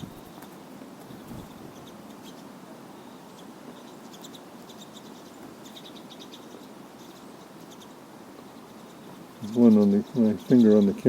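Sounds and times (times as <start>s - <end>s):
background hiss: 0.0s - 11.0s
flock of birds twittering: 0.0s - 11.0s.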